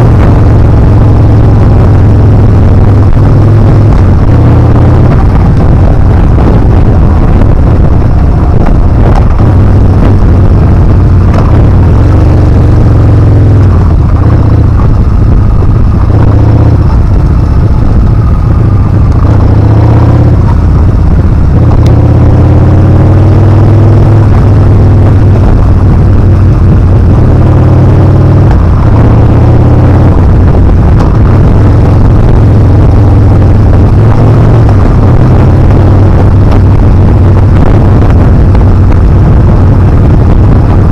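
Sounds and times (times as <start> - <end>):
motorcycle engine running: 0.0 - 40.9
wind rumbling on microphone: 0.0 - 40.9.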